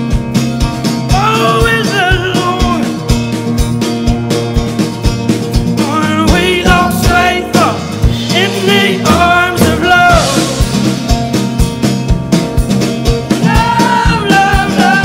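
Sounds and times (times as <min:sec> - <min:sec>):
drum kit with kick drum: 0:00.0 - 0:15.0
strummed acoustic guitar: 0:00.0 - 0:15.0.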